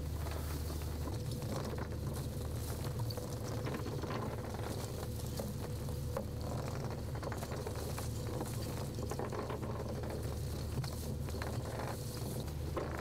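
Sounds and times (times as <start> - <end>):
boat engine rumble: 0.0 - 13.0
water splashing and crackling: 0.0 - 13.0.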